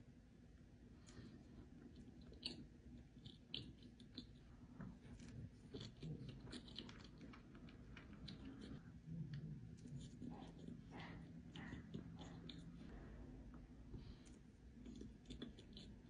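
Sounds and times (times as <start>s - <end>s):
faint chewing: 0.5s - 16.0s.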